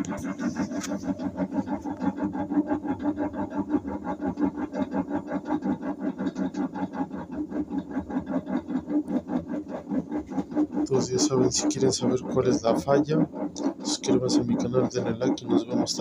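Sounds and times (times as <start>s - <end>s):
washing machine rhythmic scraping: 0.0s - 16.0s.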